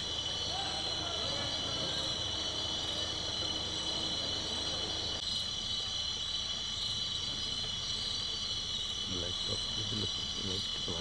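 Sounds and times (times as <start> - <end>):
shrill chorus of night insects: 0.0 - 11.0.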